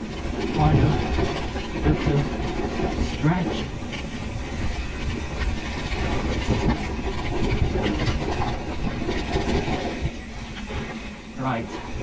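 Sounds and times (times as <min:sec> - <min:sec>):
bike rattling over bumps: 0:00.0 - 0:12.0.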